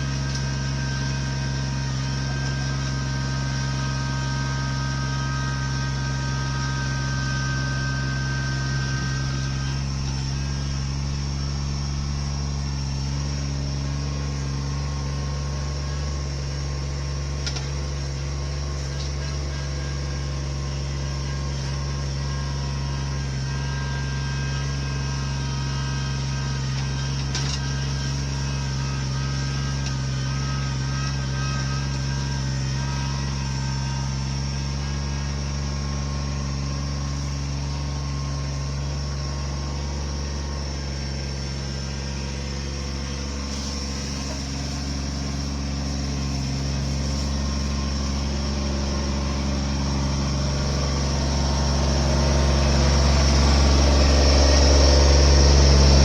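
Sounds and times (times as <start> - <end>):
large engine running: 0.0 - 56.0.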